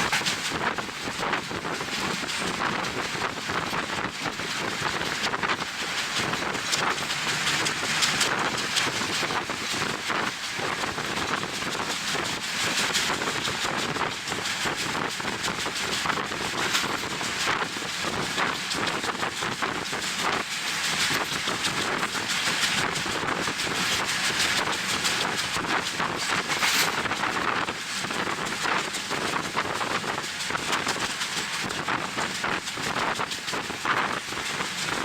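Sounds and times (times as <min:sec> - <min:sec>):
train running noise: 0:00.0 - 0:35.0
wind buffeting microphone: 0:00.0 - 0:35.0.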